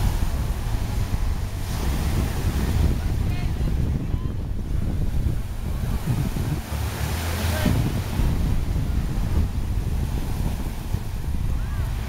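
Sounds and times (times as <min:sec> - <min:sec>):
ocean surf breaking: 0:00.0 - 0:12.0
wind rumble on microphone: 0:00.0 - 0:12.0.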